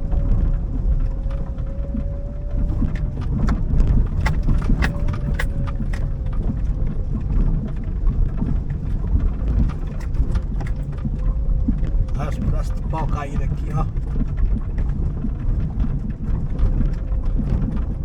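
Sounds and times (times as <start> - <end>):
road noise rumble: 0.0 - 18.0
strong wind: 0.0 - 18.0.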